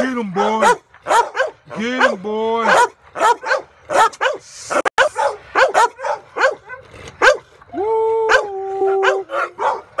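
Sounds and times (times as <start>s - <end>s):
dog barking rapidly: 0.3s - 7.5s, 8.3s - 10.0s.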